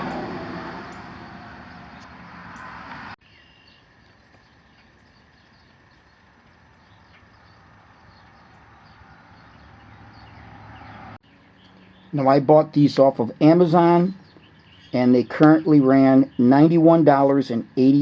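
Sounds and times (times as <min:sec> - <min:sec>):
vehicle passing: 0:00.0 - 0:03.2, 0:05.8 - 0:18.0
small birds chirping: 0:00.9 - 0:18.0.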